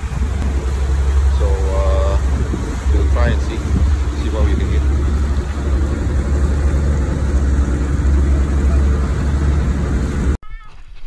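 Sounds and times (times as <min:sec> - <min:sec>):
boat engine rumbling: 0:00.0 - 0:10.4
water rushing: 0:00.0 - 0:10.4
wind: 0:00.0 - 0:11.0.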